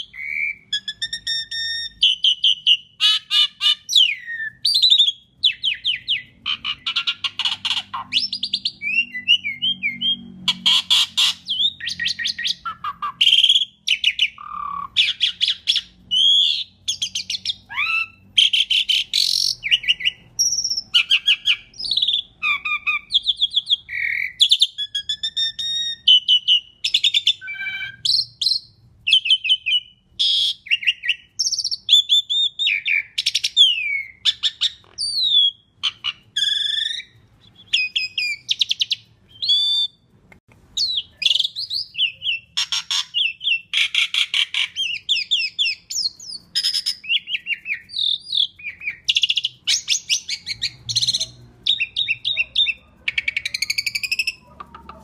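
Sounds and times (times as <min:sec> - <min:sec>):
starling singing: 0:00.0 - 0:40.0, 0:40.8 - 0:55.0.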